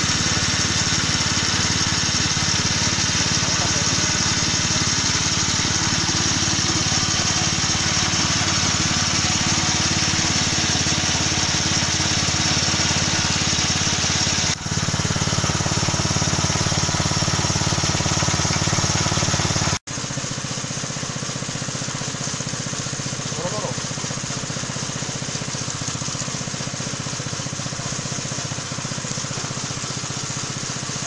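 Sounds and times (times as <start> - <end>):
extruder motor running under load: 0.0 - 31.0.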